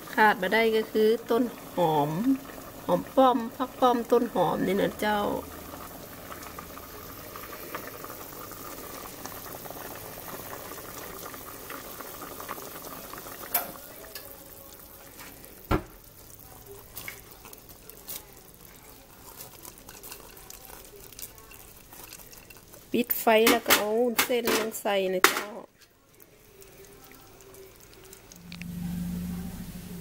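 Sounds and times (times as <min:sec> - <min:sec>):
curry bubbling in a pot: 0:00.0 - 0:29.7.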